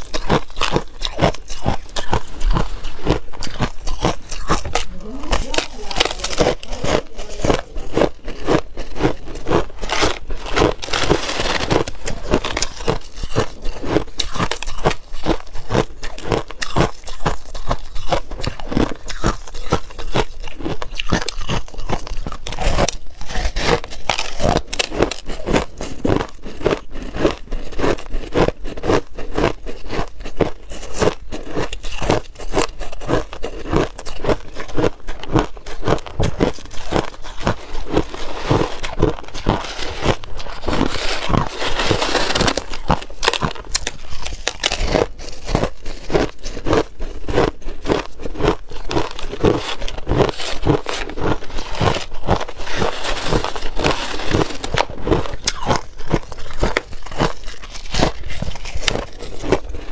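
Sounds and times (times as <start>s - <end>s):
crushed ice crunching: 0.0s - 59.9s.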